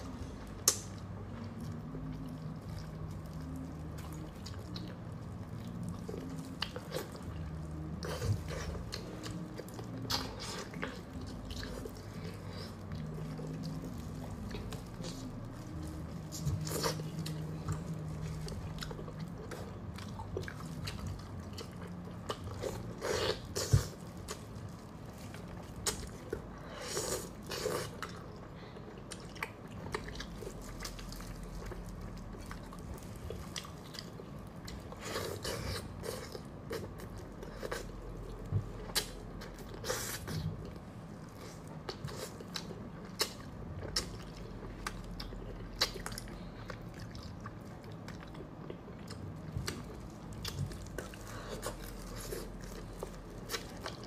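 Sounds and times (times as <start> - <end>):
person chewing meat: 0.0 - 54.0.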